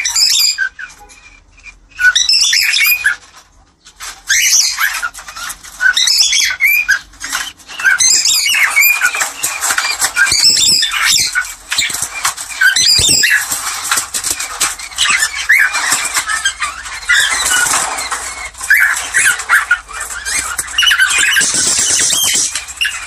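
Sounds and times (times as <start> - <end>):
cockatiels squawking and chirping: 0.0 - 23.0.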